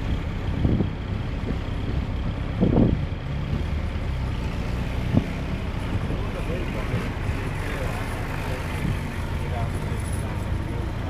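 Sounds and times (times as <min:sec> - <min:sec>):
jeep engine droning: 0:00.0 - 0:11.0.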